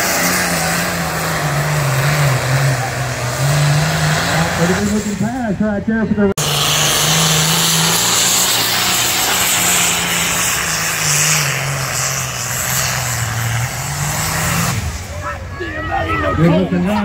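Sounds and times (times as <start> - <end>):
diesel tractor engine at full throttle: 0.0 - 17.0.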